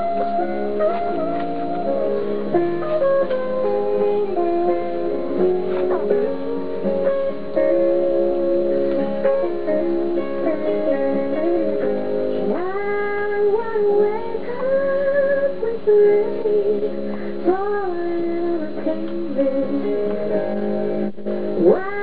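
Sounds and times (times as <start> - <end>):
song with guitar and singing: 0.0 - 22.0.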